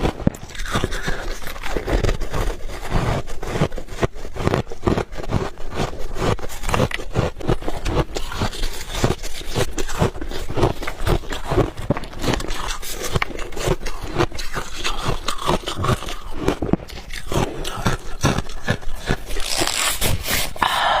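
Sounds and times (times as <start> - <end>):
crunching ice: 0.0 - 20.6.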